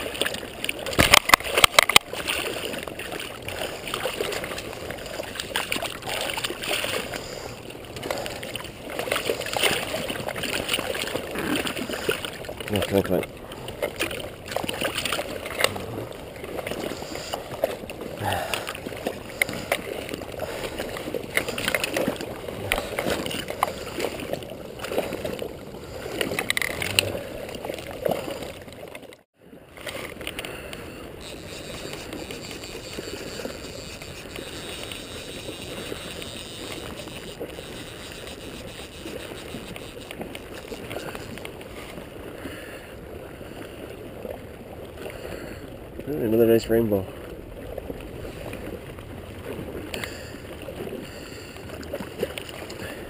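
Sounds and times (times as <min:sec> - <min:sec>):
river water rushing: 0:00.0 - 0:45.3
splashing and handling noise: 0:00.0 - 0:46.1, 0:46.7 - 0:53.0.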